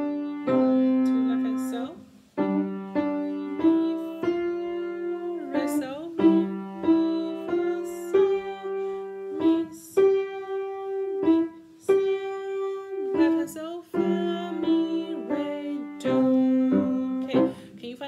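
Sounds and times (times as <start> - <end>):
slow piano melody: 0.0 - 17.8.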